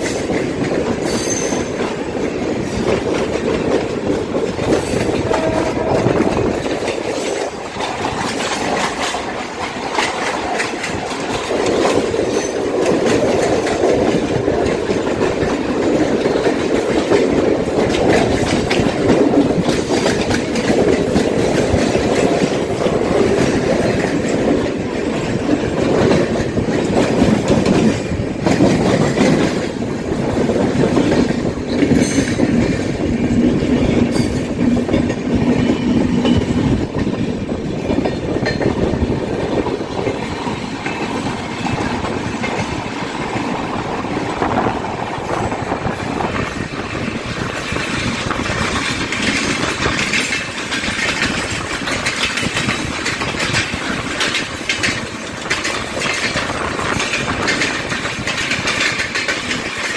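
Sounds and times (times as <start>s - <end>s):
second train passing alongside: 0.0s - 59.9s
steel wheels on rails: 0.0s - 59.9s.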